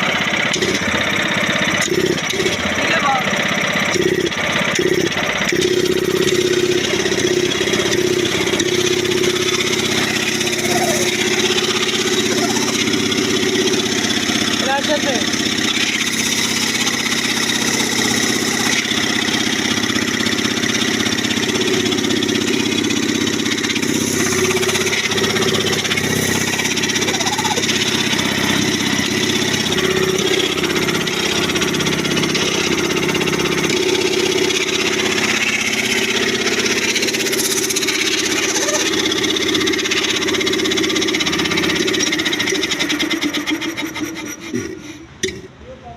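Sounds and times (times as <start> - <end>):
air compressor humming: 0.0 - 45.6.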